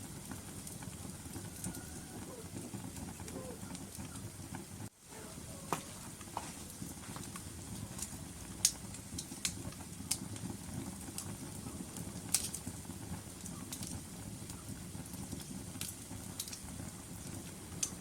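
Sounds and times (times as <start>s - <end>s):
low rumble of flame: 0.0s - 18.0s
wood crackling and popping: 0.0s - 18.0s.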